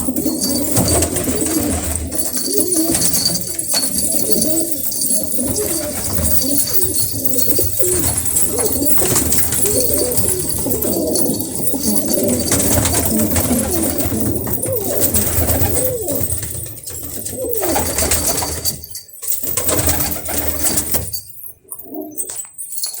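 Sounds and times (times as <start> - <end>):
pigeons cooing: 0.0 - 22.6.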